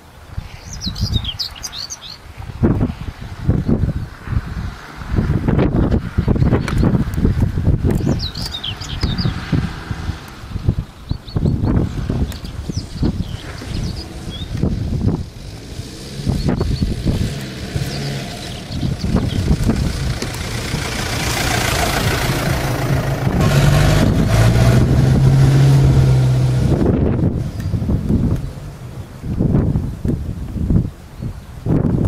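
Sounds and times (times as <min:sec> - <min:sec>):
off-road vehicle engine revving: 0:03.7 - 0:30.2.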